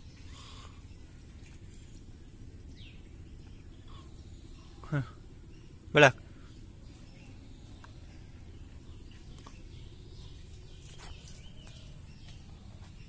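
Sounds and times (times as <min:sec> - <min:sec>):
faint bird chirps: 0:00.0 - 0:13.0
low steady rumble: 0:00.0 - 0:13.0.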